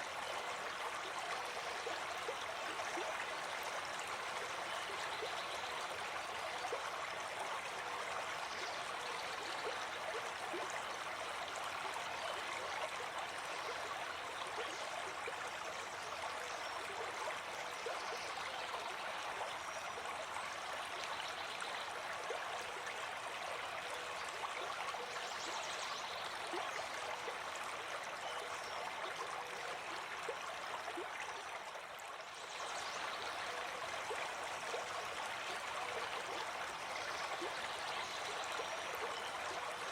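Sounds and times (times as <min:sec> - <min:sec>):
water rushing with gurgles: 0:00.0 - 0:39.9.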